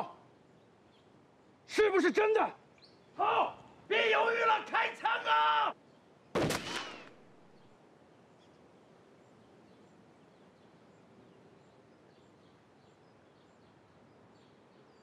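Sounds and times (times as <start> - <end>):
faint bird chirps: 0.0 - 3.8, 5.8 - 15.0.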